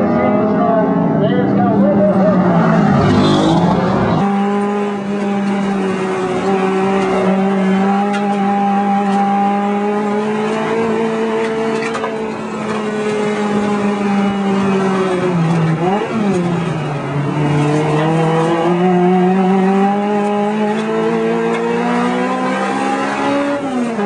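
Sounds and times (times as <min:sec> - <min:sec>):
car engine from inside cockpit: 0:00.0 - 0:24.0.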